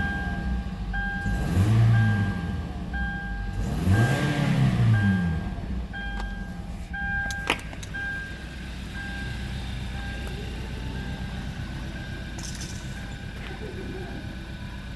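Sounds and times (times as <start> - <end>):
car engine idling: 0.0 - 14.9
dashboard warning chime beeping: 0.0 - 14.9.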